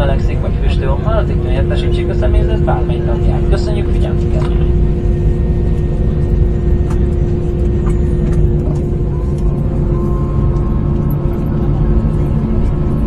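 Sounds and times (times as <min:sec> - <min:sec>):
aircraft cabin low rumble: 0:00.0 - 0:13.0
higher steady tone: 0:00.0 - 0:13.0
turbofan engine hum: 0:00.0 - 0:13.0.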